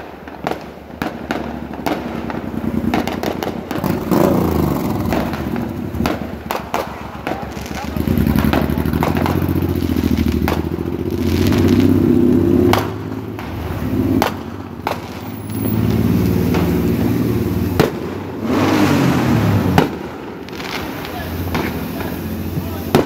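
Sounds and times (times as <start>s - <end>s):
fireworks banging and crackling: 0.0s - 23.0s
vehicle engine rumbling: 0.0s - 23.0s.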